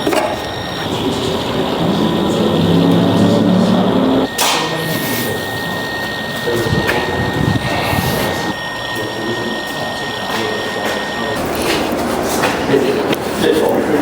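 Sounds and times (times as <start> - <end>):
small motor whining: 0.0 - 14.0.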